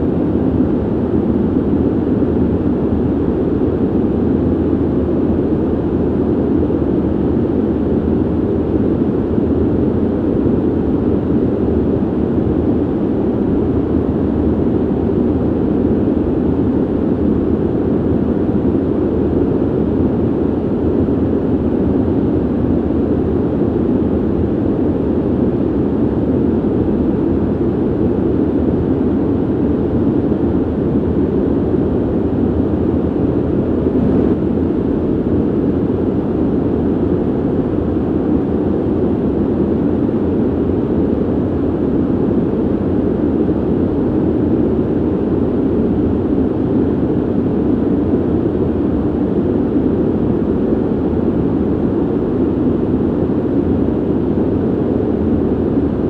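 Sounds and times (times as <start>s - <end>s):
air rushing through ventilation: 0.0s - 56.0s.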